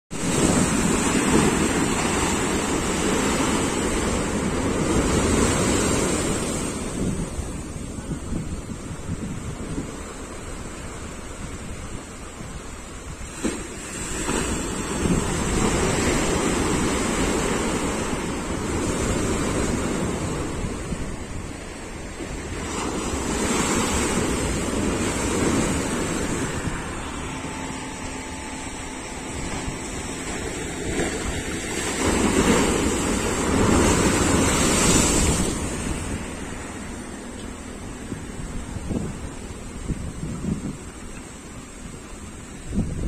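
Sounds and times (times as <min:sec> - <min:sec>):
sea surf rushing: 0:00.1 - 0:43.0.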